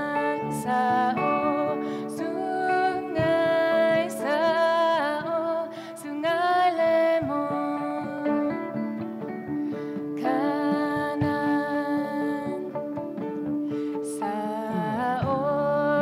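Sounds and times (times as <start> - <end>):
plucked lute: 0.0 - 16.0
woman singing: 0.0 - 16.0.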